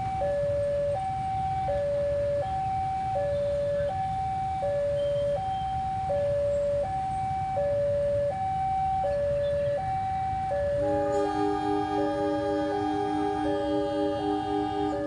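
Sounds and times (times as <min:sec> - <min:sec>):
level crossing alarm two-tone: 0:00.0 - 0:15.0
low rumble of road traffic: 0:00.0 - 0:15.0.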